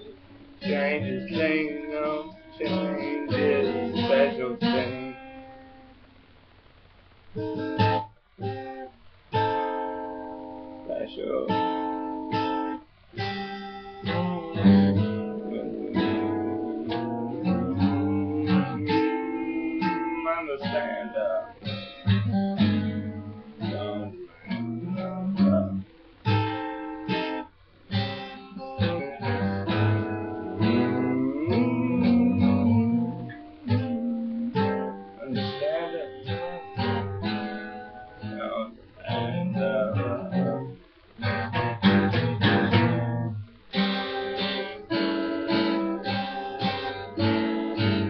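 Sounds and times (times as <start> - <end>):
guitar strumming chords: 0.0 - 6.3, 7.3 - 48.0.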